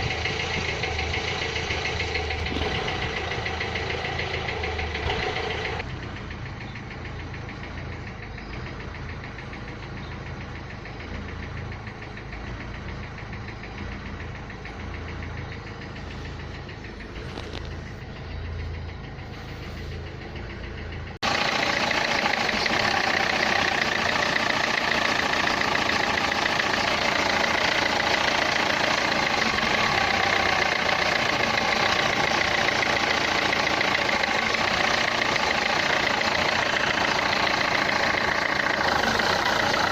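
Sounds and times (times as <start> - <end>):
diesel engine idling: 0.0 - 39.9
engine knocking noise: 0.0 - 39.9.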